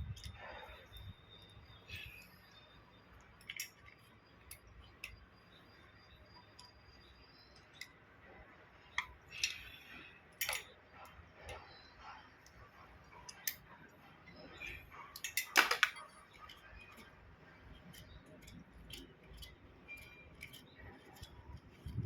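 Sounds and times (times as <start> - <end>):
small metal parts clinking: 0.0 - 8.1, 8.8 - 11.6, 12.4 - 22.0.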